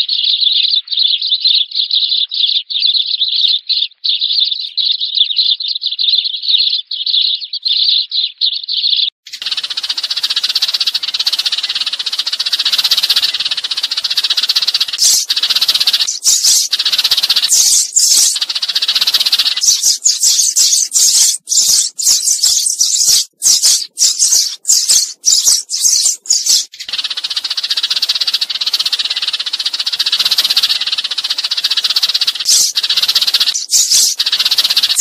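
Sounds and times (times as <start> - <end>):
sparrows chirping: 0.0 - 35.0.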